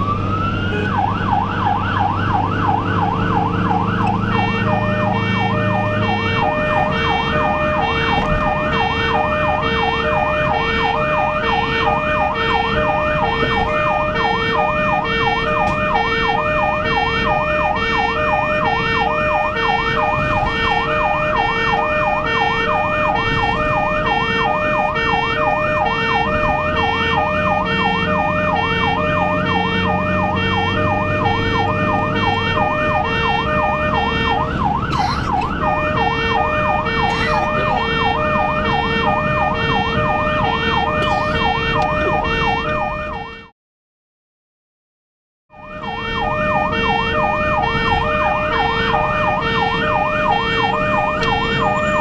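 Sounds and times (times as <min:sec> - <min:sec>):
ambulance siren warbling: 0:00.0 - 0:43.5, 0:45.5 - 0:52.0
road noise: 0:00.0 - 0:43.5, 0:45.5 - 0:52.0.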